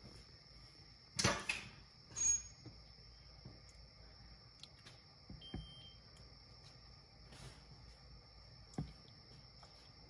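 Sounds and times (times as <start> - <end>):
faint high whine: 0.0 - 10.0.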